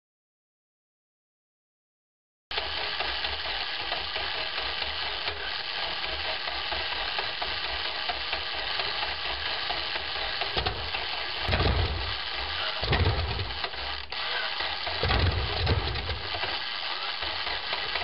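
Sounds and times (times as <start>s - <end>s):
radial engine turning over: 2.5s - 18.0s
steady hiss: 2.6s - 18.0s.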